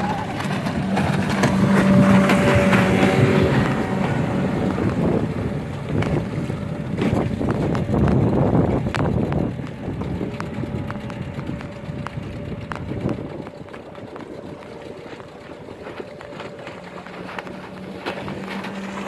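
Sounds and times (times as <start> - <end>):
motorboat engine humming: 0.0 - 19.0
wind on microphone: 0.0 - 19.0.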